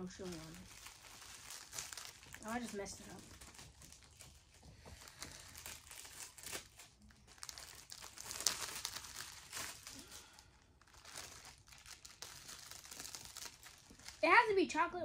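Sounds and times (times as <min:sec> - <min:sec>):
candy wrapper crinkling: 0:00.0 - 0:14.5.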